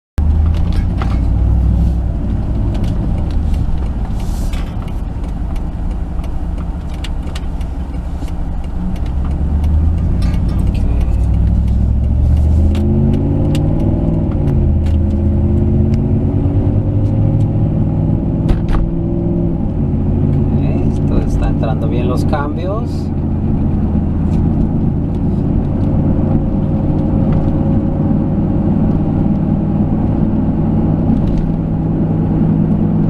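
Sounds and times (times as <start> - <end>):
automatic gear change: 0.2 - 31.7
car engine rumble: 0.2 - 33.0
road noise: 0.2 - 33.0.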